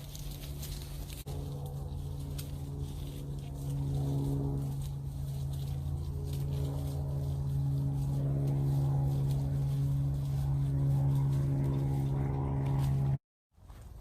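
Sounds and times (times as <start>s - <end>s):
motor engine humming: 0.0s - 13.2s.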